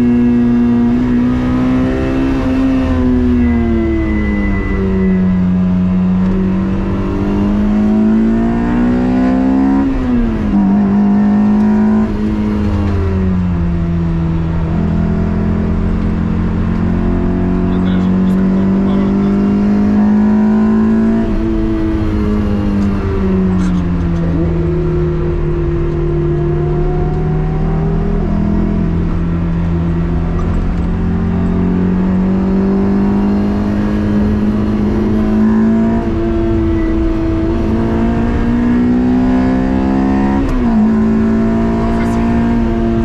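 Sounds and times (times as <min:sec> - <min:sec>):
car engine pulling hard: 0:00.0 - 0:43.0.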